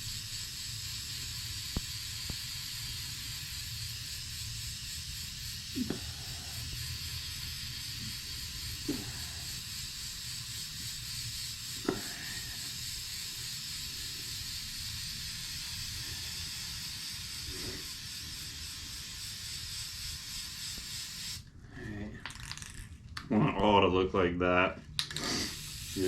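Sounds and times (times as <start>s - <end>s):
aerosol can spraying hiss: 0.0s - 21.5s, 25.0s - 26.0s.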